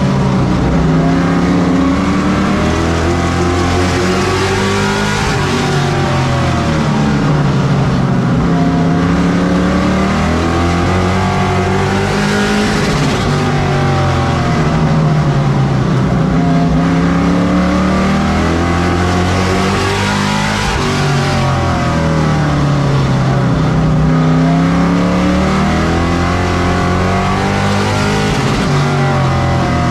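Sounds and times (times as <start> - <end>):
race truck engine revving: 0.0 - 29.9.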